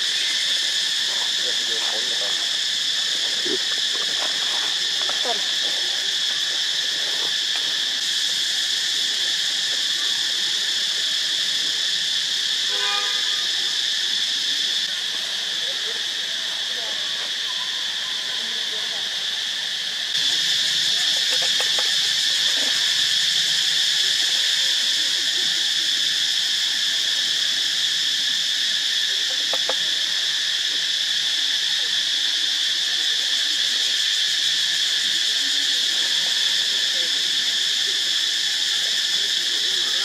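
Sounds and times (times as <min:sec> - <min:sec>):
chorus of insects droning: 0:00.0 - 0:40.0.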